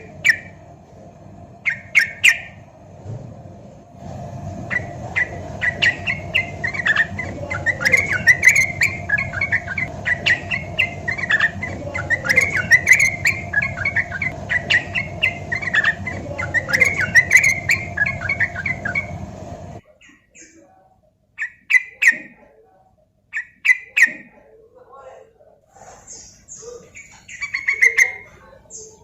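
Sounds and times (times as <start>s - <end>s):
bulbul singing chattering phrases: 0.0s - 0.8s, 1.5s - 2.8s, 4.4s - 22.6s, 23.3s - 29.0s
faint steady hum: 0.0s - 29.0s.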